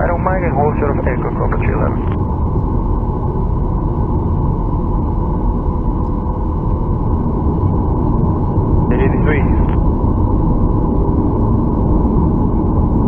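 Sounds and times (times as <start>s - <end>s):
jet engines idling: 0.0s - 13.0s.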